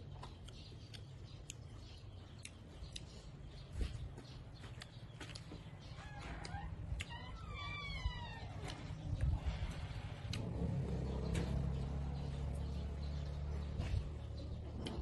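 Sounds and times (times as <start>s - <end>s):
close chewing and mouth clicks: 0.0s - 15.0s.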